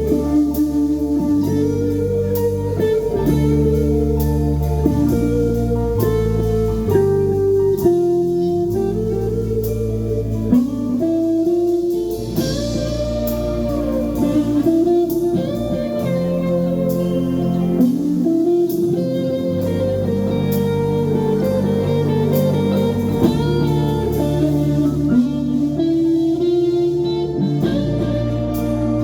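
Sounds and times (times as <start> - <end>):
bass notes: 0.0 - 29.0
drums with cymbal hits: 0.0 - 29.0
electric guitar lead: 0.0 - 29.0.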